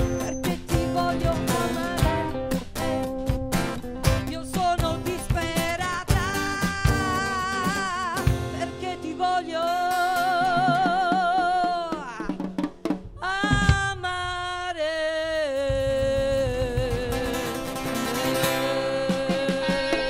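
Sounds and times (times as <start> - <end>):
woman singing: 0.0 - 2.4, 4.2 - 12.5, 13.2 - 20.0
pop band playing: 0.0 - 14.8, 15.5 - 20.0.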